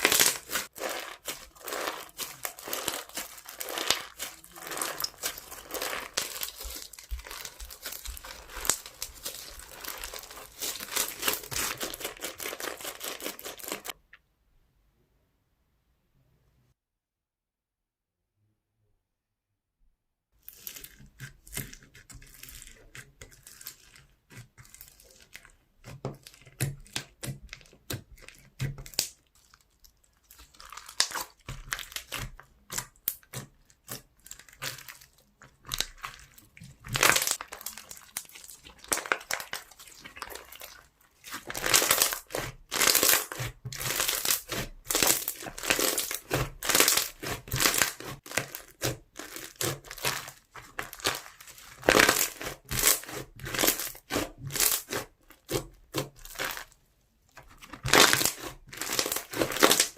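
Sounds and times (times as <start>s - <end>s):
foam slime crackling and crunching: 0.0s - 14.0s, 20.4s - 59.9s.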